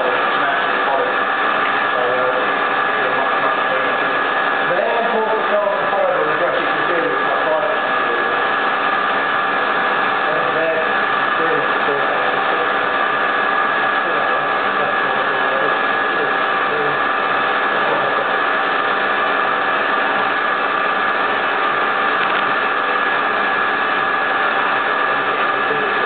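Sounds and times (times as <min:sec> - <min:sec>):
router spindle whining: 0:00.0 - 0:26.0.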